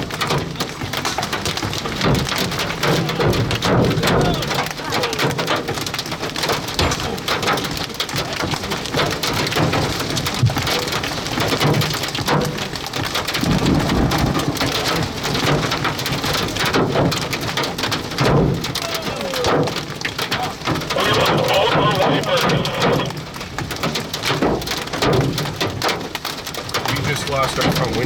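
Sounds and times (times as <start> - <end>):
hail and rain pelting a vehicle: 0.0 - 28.0.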